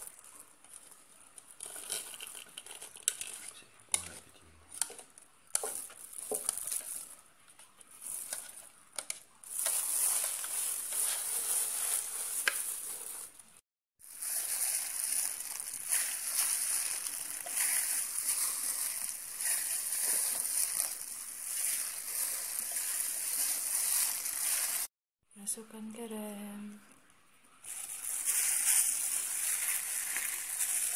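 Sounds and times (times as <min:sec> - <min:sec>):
plastic bag rustling and crinkling: 0:00.0 - 0:03.6, 0:04.8 - 0:24.9, 0:27.6 - 0:30.9.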